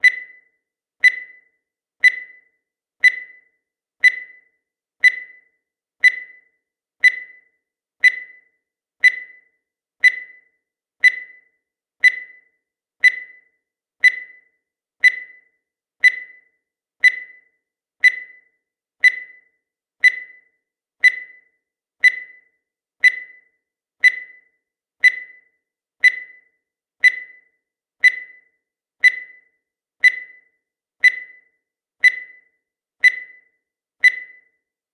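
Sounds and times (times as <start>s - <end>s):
timer beeps: 0.0s - 34.8s.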